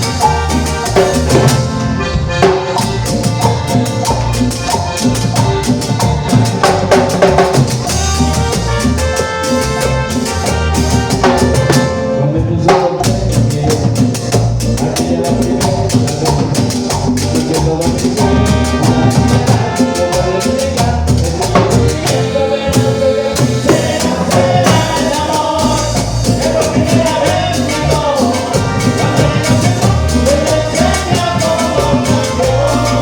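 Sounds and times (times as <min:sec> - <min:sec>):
drum kit and hand percussion: 0:00.0 - 0:33.0
latin dance band music: 0:00.0 - 0:33.0.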